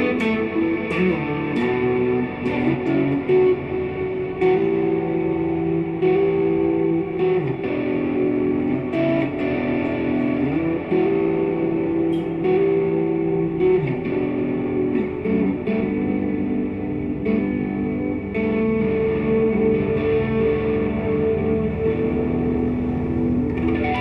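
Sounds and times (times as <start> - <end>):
electric guitar chords: 0.0 - 24.0.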